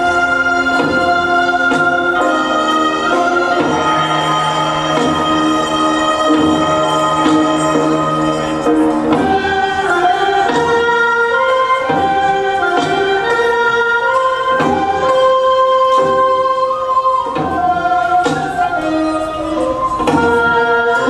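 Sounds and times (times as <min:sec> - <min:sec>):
slow melody with singing: 0:00.0 - 0:21.0.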